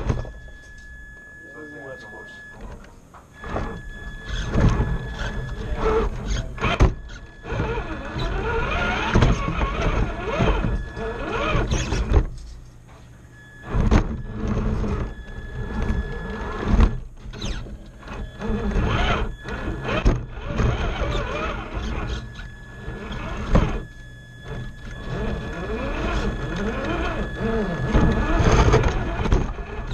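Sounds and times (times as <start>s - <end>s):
electric motor whining: 0.0s - 29.9s.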